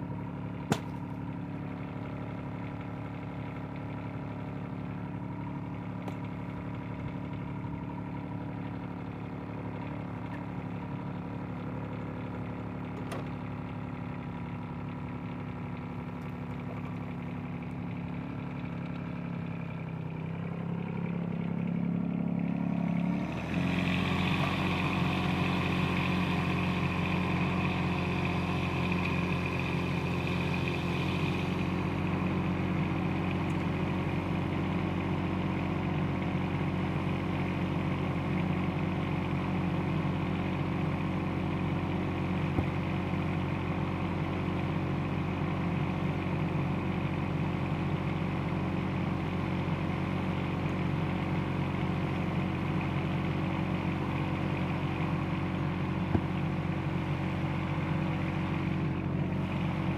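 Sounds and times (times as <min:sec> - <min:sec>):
diesel excavator engine running: 0:00.0 - 0:59.9.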